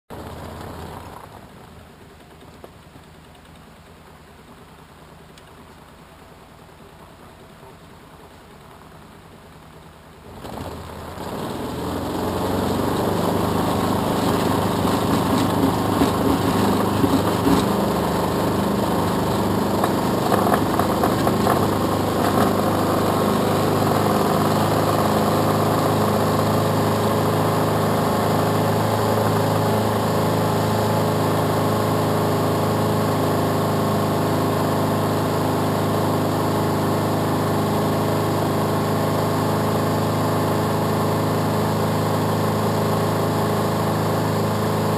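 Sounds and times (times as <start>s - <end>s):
propeller aircraft engine drone: 0.1s - 44.9s.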